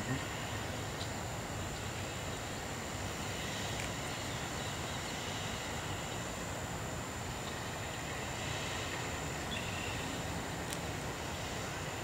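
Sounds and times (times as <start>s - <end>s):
even hiss: 0.0s - 12.0s
faint high-pitched whine: 0.0s - 12.0s.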